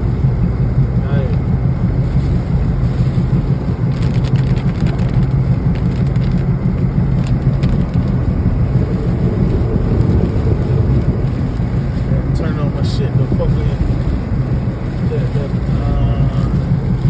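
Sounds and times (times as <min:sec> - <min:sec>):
car driving rumble inside cabin: 0:00.0 - 0:17.0
rain tapping on car: 0:00.2 - 0:17.0.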